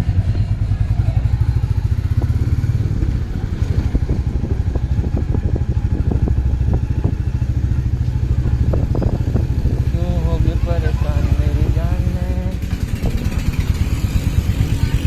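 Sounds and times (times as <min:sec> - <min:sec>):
motorcycle engine thumping: 0:00.2 - 0:15.0.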